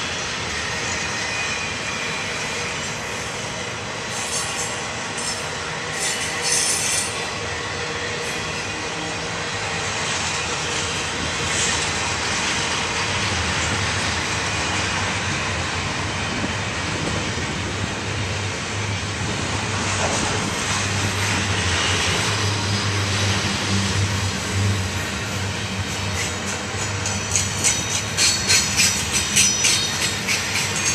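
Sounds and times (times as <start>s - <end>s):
freight train passing: 0.0s - 30.9s.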